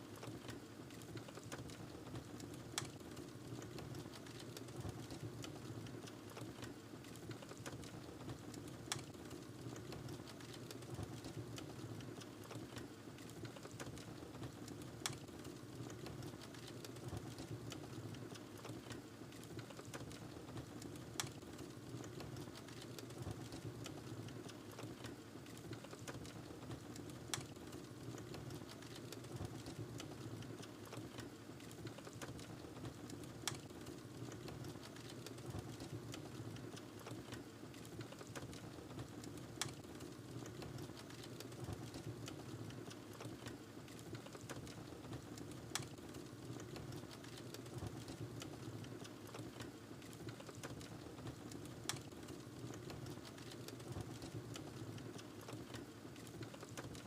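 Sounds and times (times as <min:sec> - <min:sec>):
wood fire crackling: 0:00.2 - 0:57.0.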